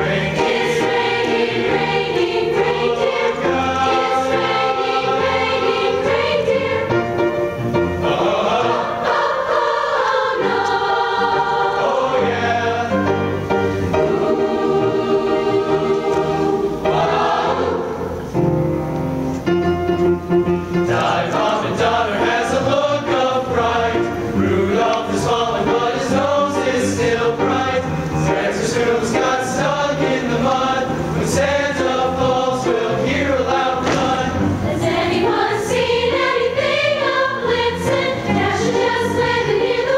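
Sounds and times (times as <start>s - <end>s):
choir singing: 0.0s - 18.8s, 20.8s - 39.9s.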